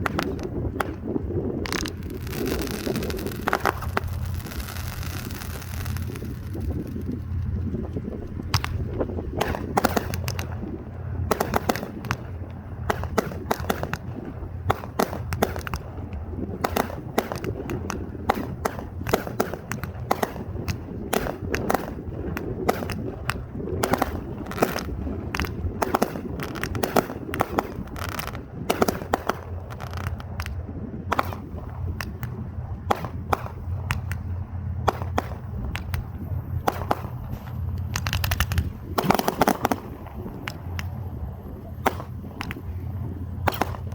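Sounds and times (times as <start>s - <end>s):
fireworks bangs and pops: 0.0s - 43.9s
steady low hum: 0.0s - 43.9s.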